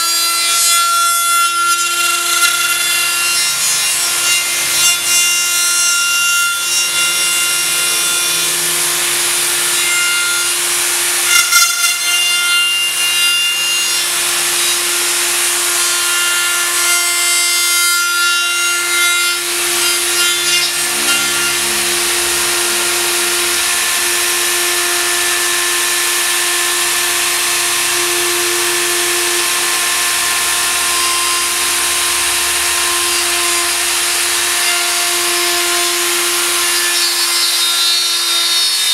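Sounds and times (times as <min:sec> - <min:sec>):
router motor whine cutting metal: 0:00.0 - 0:38.9.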